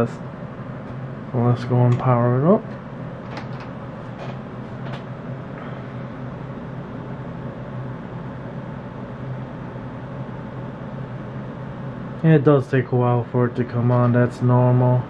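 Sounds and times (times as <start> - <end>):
cooling fan humming: 0.0 - 15.0.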